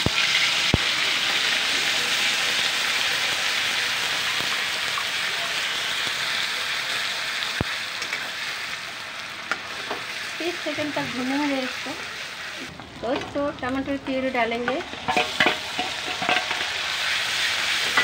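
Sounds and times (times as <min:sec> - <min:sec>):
paste sizzling in hot oil: 0:00.0 - 0:12.7, 0:14.2 - 0:18.0.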